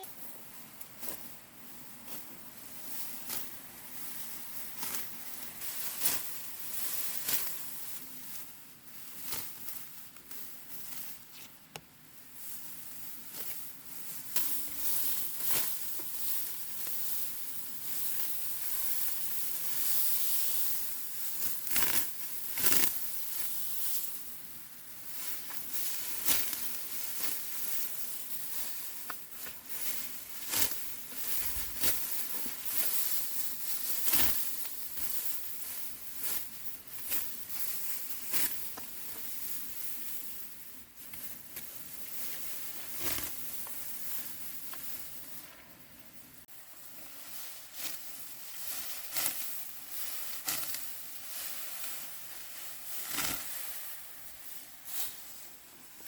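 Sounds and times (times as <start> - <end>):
steady hiss: 0.0 - 56.0
dry plant stalks rustling: 0.6 - 45.8, 46.4 - 56.0.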